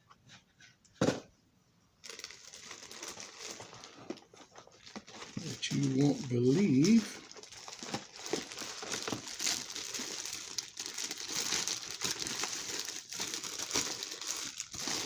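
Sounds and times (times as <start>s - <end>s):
packing material crinkling: 2.0s - 15.0s.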